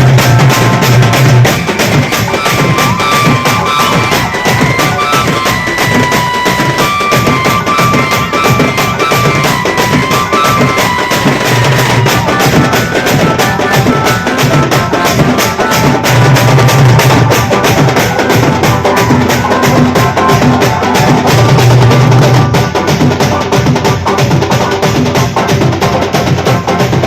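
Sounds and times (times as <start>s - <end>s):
band playing fast drum-heavy music: 0.0s - 27.0s
dense drum strokes: 0.0s - 27.0s
held melody line: 0.0s - 27.0s.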